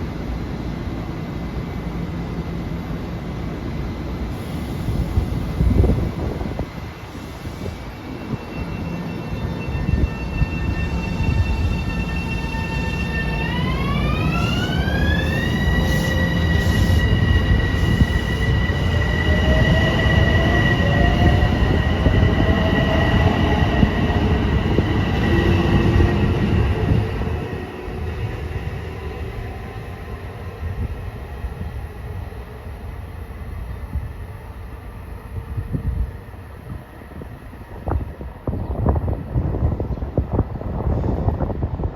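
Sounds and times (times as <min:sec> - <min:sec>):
train rumbling: 0:00.0 - 0:41.9
train whine: 0:00.0 - 0:41.9.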